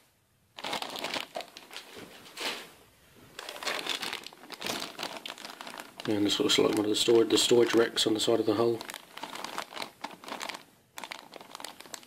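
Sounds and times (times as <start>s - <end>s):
plastic bag crinkling: 0.6s - 2.7s, 3.3s - 12.0s.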